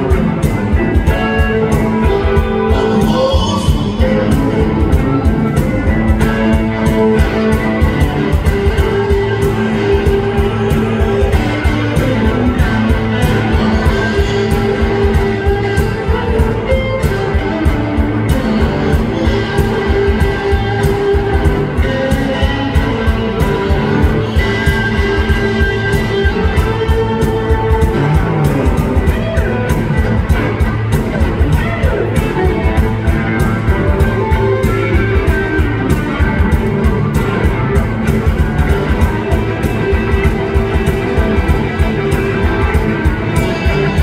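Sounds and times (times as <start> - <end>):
blues band playing live: 0.0 - 44.0.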